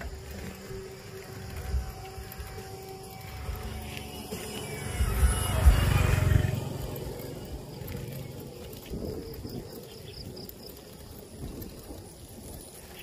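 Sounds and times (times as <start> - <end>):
birds chirping: 0.0 - 13.0
insects chirping: 0.0 - 13.0.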